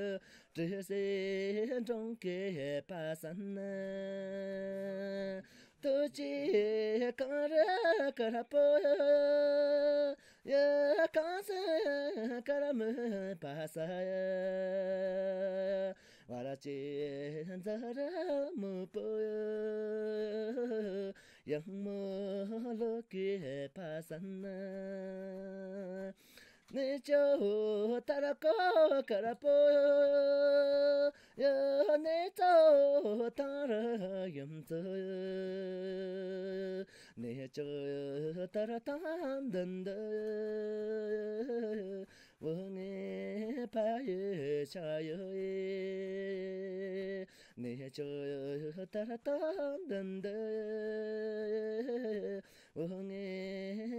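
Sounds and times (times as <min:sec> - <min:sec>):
person singing unaccompanied: 0:00.0 - 0:53.9.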